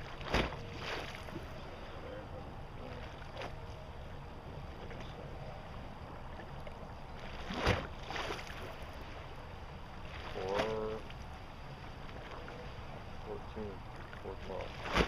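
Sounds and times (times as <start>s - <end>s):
river water: 0.0s - 15.0s.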